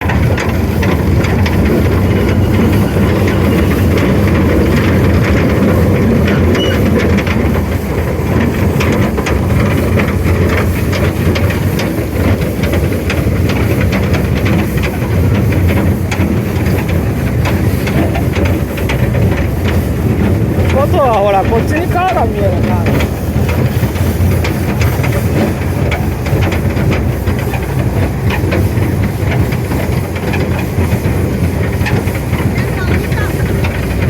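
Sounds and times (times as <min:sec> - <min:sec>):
train engine droning: 0:00.0 - 0:34.0
wheels clattering on track: 0:00.0 - 0:34.0.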